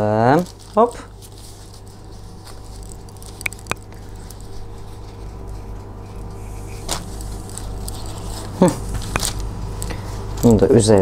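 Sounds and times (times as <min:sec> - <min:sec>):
pastry sheet rustling on baking paper: 0:00.0 - 0:11.0
low hum: 0:01.3 - 0:10.4.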